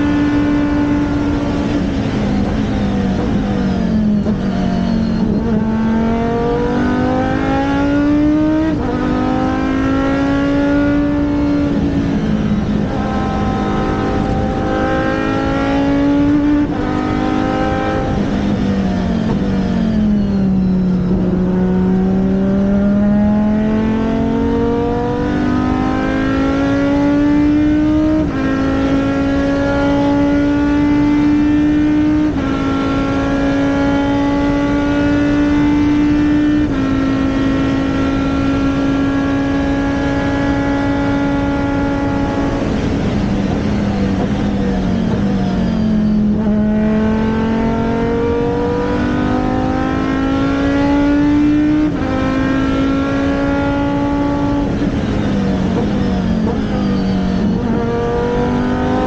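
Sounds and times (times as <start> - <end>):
racing car engine running hard: 0.0 - 59.0.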